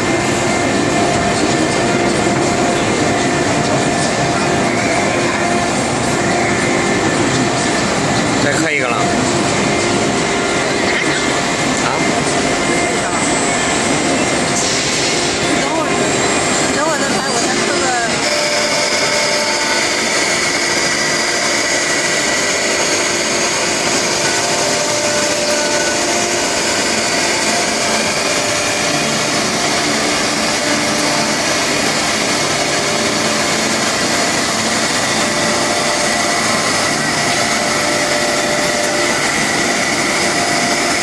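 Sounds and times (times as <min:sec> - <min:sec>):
machine running with high whine: 0:00.0 - 0:41.0.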